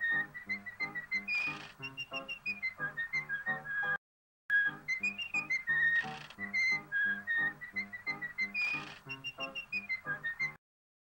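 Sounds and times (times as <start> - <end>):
cartoon character whistling: 0.0 - 4.0, 4.6 - 10.6.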